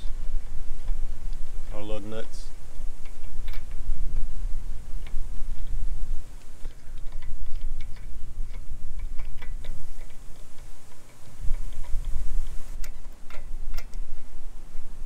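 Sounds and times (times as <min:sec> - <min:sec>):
low rumble: 0:00.0 - 0:15.0
lug nuts clicking: 0:00.0 - 0:15.0.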